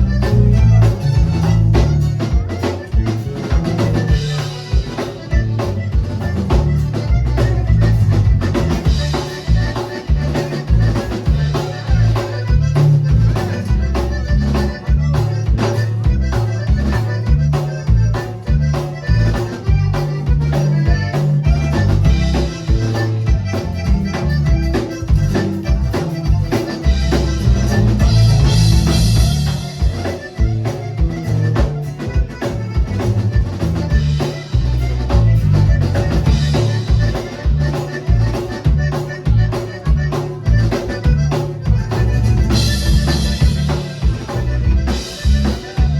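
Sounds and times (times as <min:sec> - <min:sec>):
accordion: 0:00.0 - 0:45.9
drum kit beat: 0:00.0 - 0:45.9.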